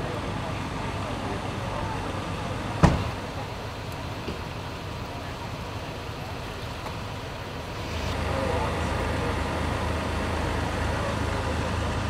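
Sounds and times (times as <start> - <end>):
fire engine idling: 0.0 - 12.0
street noise: 0.0 - 12.0.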